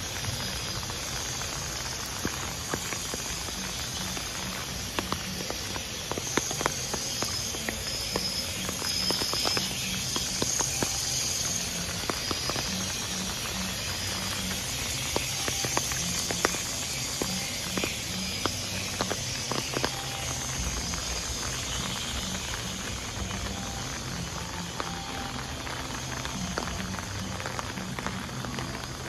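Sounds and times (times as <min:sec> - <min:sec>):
close raindrops tapping: 0:00.0 - 0:29.0
faint high insect chirring: 0:00.0 - 0:29.0
light rain on pavement and foliage: 0:00.0 - 0:29.0.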